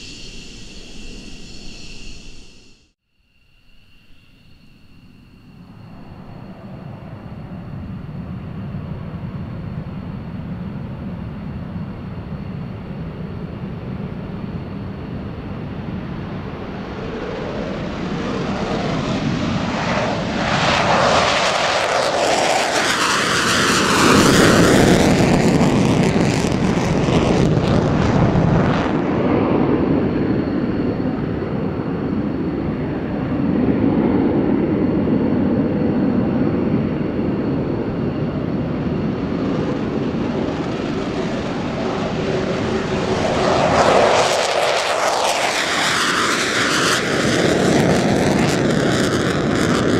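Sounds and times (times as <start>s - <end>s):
jet engines roaring at takeoff: 0.0s - 3.0s, 5.1s - 49.9s.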